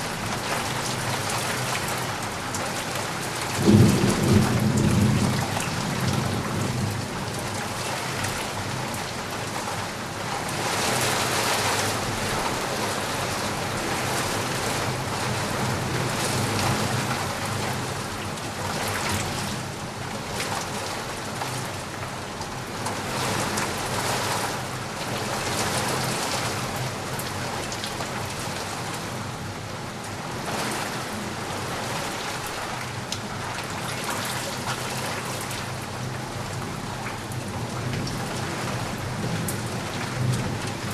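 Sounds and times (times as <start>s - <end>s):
heavy rain falling: 0.0s - 40.9s
raindrops pattering on surfaces: 0.0s - 40.9s.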